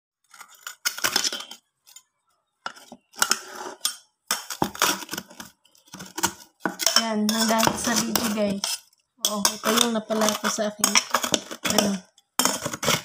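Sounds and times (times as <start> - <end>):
metal spoon scraping metal pot: 0.2 - 13.0.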